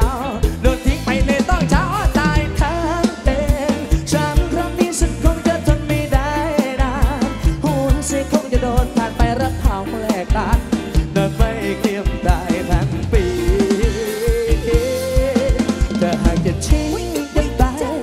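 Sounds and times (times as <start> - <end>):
bass guitar: 0.0 - 18.0
electric guitar: 0.0 - 18.0
person singing: 0.0 - 18.0.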